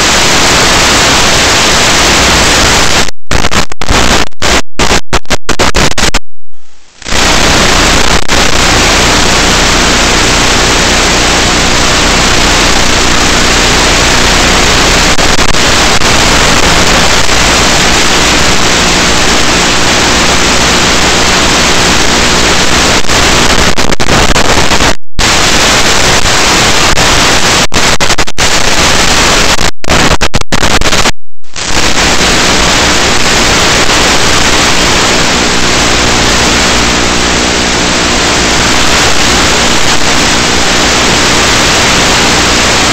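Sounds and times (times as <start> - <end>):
loud static hiss: 0.0 - 42.9.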